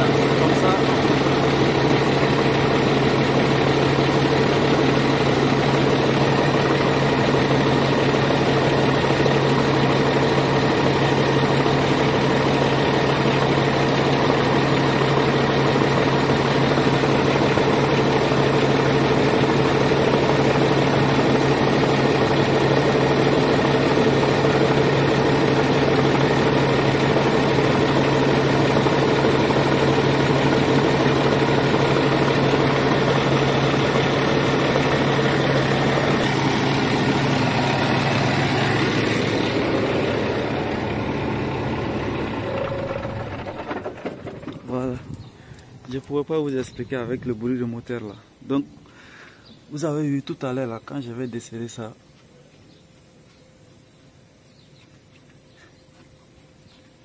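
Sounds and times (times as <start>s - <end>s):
diesel truck engine idling: 0.0s - 49.5s.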